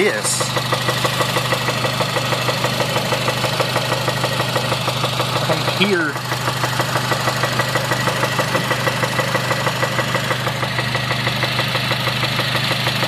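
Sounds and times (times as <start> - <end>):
engine idling with rapid knock: 0.0 - 13.0.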